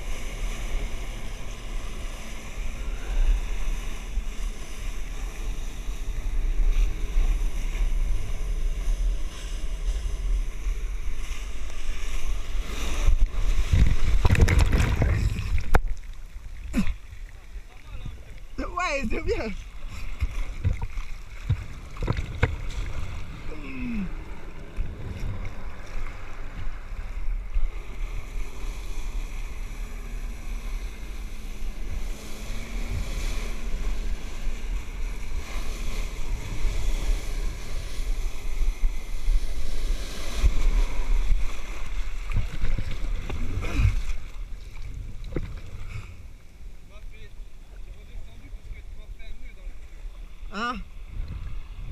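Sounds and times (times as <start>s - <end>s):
water jets rushing and churning: 0.0s - 48.4s
wind rumble on microphone: 0.0s - 51.9s.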